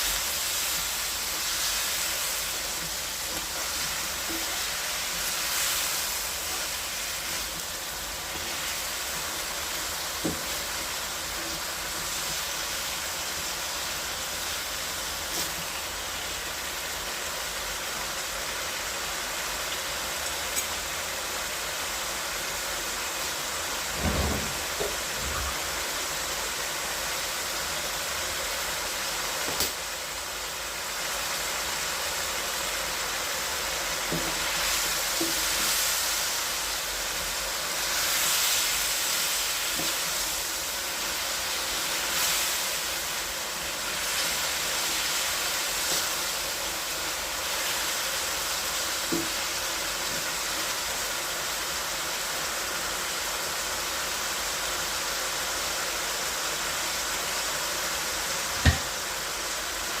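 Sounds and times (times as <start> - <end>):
food sizzling in a pan: 0.0 - 60.0.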